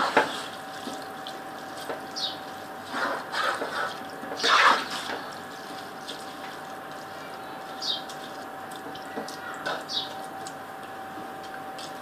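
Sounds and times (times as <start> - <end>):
water sloshing and bubbling in pot: 0.0 - 12.0.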